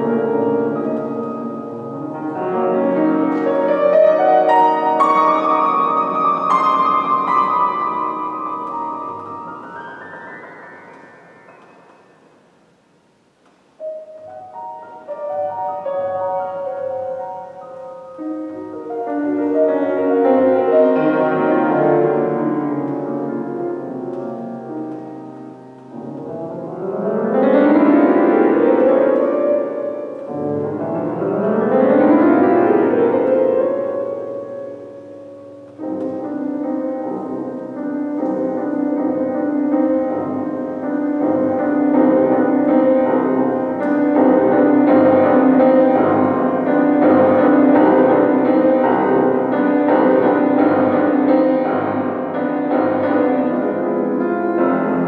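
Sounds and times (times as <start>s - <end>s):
solo grand piano piece: 0.0s - 55.0s.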